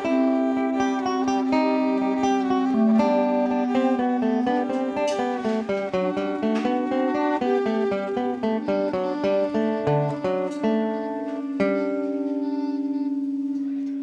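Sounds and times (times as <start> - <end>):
fiddle: 0.0 - 13.4
clarinet melody: 0.0 - 14.0
strummed acoustic guitar: 0.0 - 14.0.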